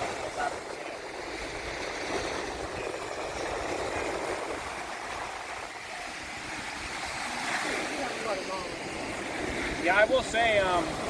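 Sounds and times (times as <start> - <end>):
surf rushing on beach: 0.0 - 11.0
wind on microphone: 0.0 - 11.0.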